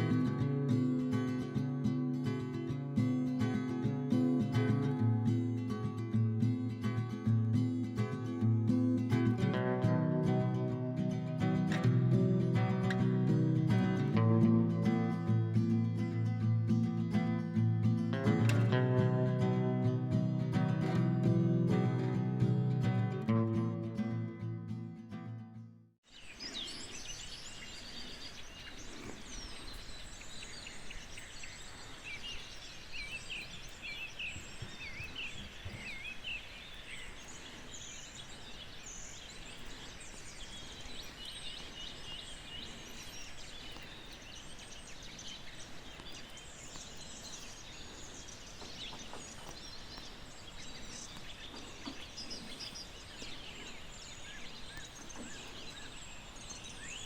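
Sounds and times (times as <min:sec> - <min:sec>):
wild birds singing and chirping: 0:00.0 - 0:25.2, 0:26.0 - 0:57.0
steady outdoor background hiss: 0:00.0 - 0:25.4, 0:26.0 - 0:57.0.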